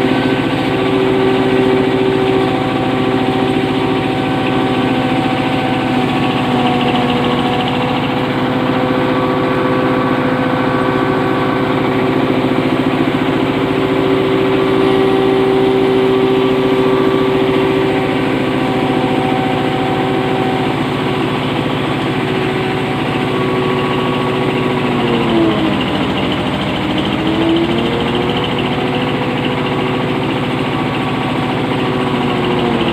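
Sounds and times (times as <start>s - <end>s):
hammer mill grinder running: 0.0s - 32.9s.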